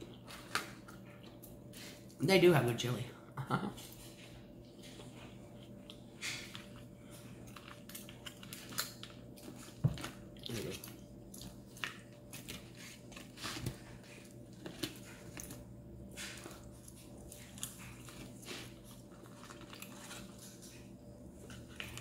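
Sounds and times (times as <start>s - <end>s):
person chewing food: 0.0s - 2.2s, 3.7s - 22.0s.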